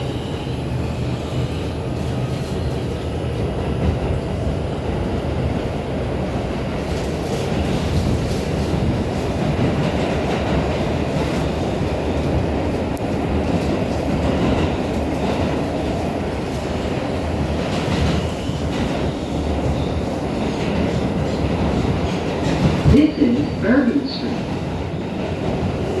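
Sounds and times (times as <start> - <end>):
subway wheels rumbling on rails: 0.0 - 26.0.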